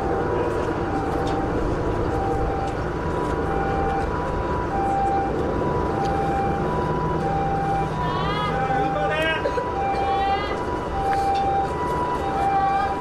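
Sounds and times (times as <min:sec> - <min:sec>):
two-tone ambulance siren: 0:00.0 - 0:13.0.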